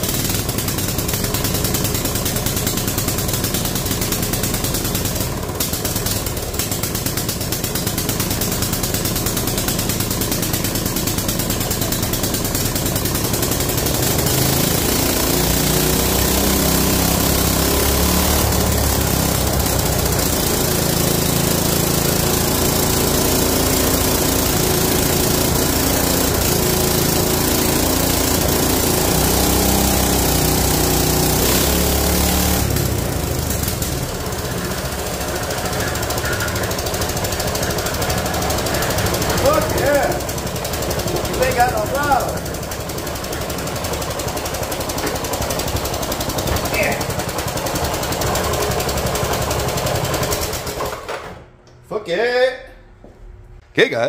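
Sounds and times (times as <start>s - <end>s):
mini bike engine running: 0.0s - 51.4s.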